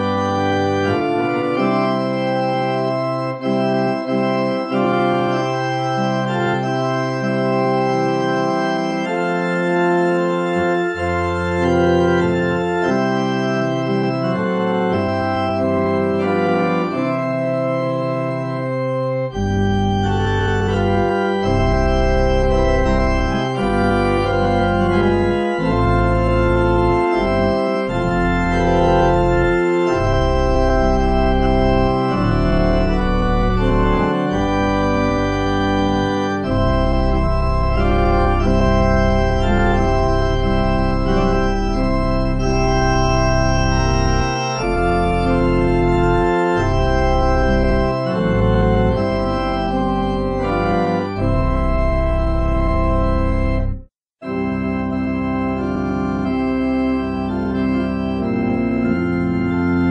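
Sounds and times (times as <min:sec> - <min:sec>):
organ playing hymn chords: 0:00.0 - 0:59.9.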